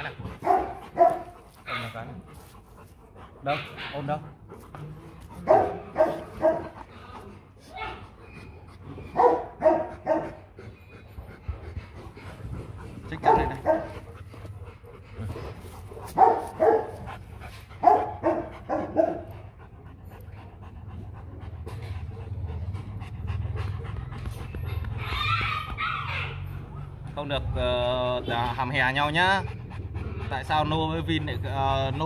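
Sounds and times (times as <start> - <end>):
dogs barking: 0.0 - 7.0, 7.7 - 10.7, 12.0 - 19.6, 21.1 - 32.0
dog panting: 0.0 - 32.0.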